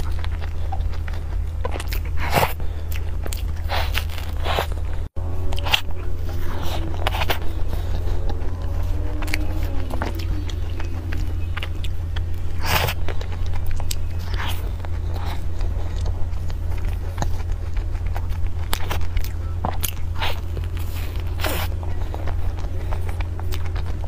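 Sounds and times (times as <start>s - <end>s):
steady low hum: 0.0s - 24.0s
wet chewing mouth noises: 0.0s - 24.0s.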